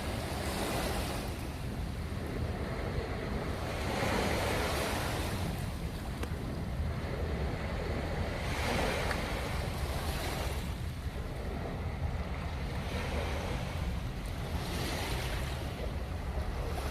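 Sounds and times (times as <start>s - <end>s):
sea waves washing onto beach: 0.0s - 16.9s
wind rumbling on microphone: 0.0s - 16.9s.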